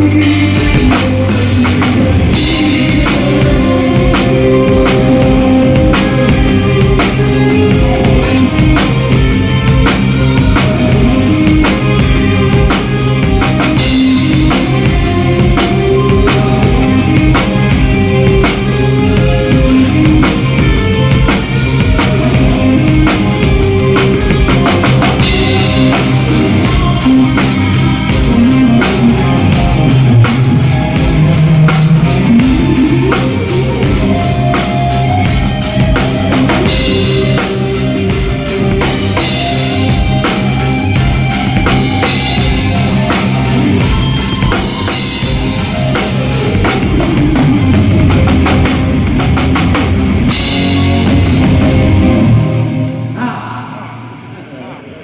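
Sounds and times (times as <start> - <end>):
drum kit steady beat: 0.0 - 52.6
rock song backing: 0.0 - 53.3.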